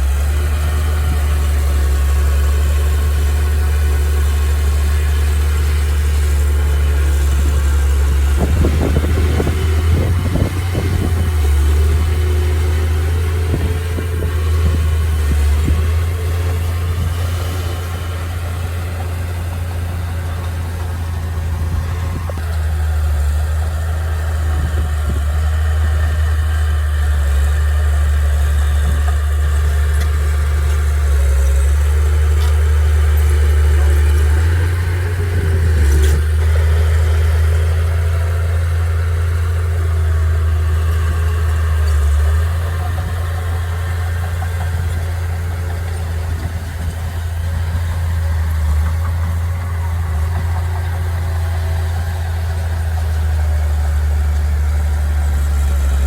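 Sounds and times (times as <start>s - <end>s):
diesel engine running at low revs: 0.0s - 56.0s.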